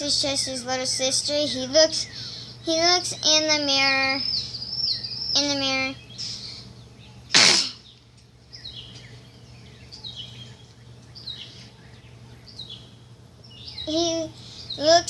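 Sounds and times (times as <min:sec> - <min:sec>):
bird chirping: 0:00.0 - 0:15.0
faint low hum: 0:00.0 - 0:15.0.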